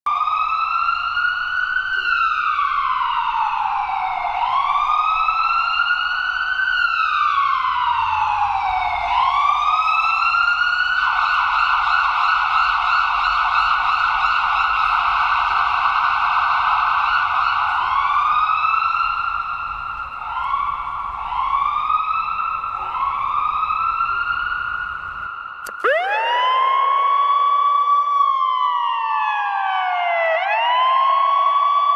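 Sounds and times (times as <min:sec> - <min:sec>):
emergency vehicle siren wailing: 0:00.1 - 0:31.9.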